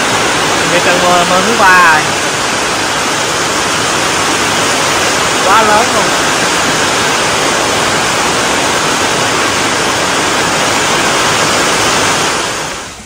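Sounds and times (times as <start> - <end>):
heavy pouring rain: 0.0 - 13.0.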